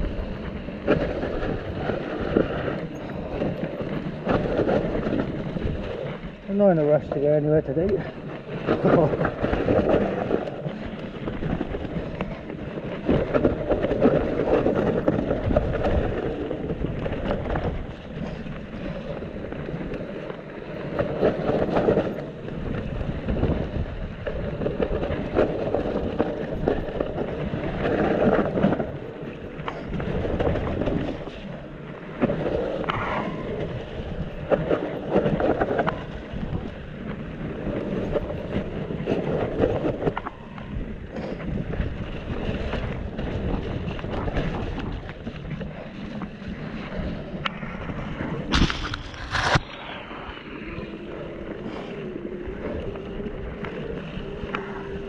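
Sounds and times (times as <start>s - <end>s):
bike knocking and rattling: 0.0s - 49.8s
tyres rolling through mud: 0.0s - 55.0s
wind buffeting microphone: 0.0s - 55.0s.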